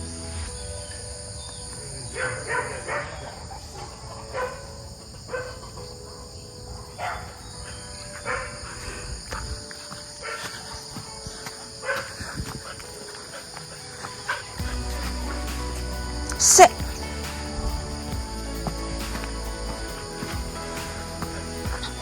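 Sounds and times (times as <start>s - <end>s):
insects chirping chorus: 0.0s - 22.0s.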